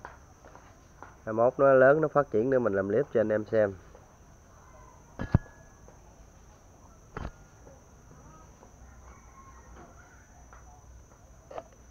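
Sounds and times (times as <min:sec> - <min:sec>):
high-pitched insect-like whine: 0:01.3 - 0:11.9.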